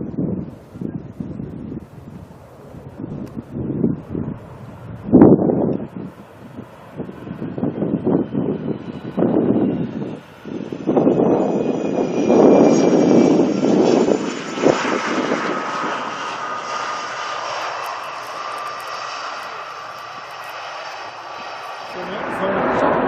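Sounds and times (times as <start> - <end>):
high jet whine: 0.0 - 23.0
jet engine rumble: 0.0 - 23.0.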